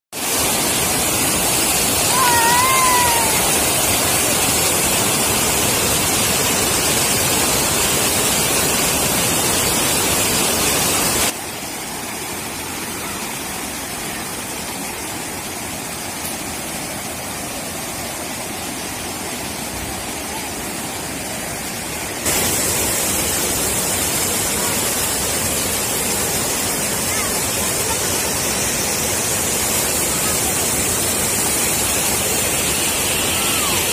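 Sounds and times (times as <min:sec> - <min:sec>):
river water rushing over dam: 0:00.2 - 0:33.9.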